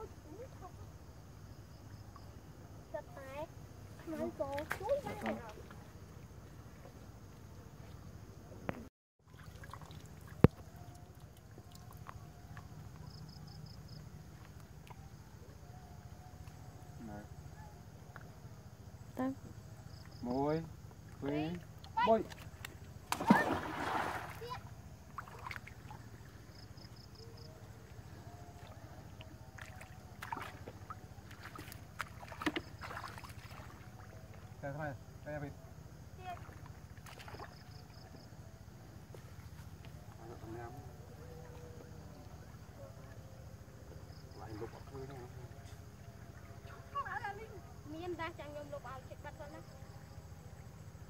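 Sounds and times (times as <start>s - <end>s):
boat engine droning: 9.4s - 51.0s.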